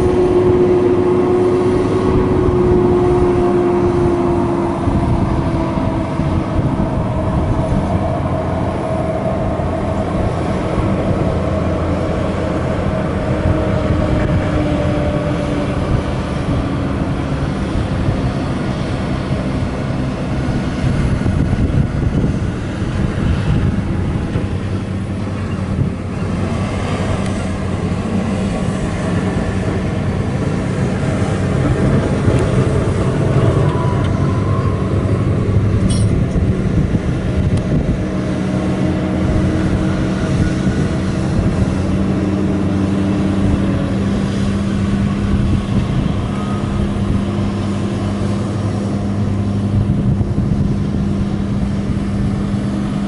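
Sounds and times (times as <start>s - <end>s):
diesel truck engine droning: 0.0s - 53.0s
engine whine: 0.0s - 53.0s.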